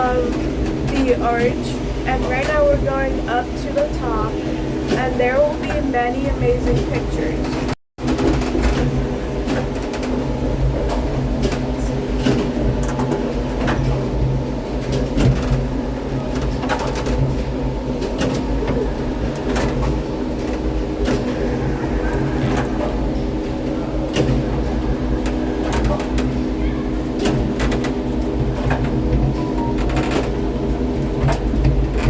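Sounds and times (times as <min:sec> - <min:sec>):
steady mechanical hum: 0:00.0 - 0:32.0.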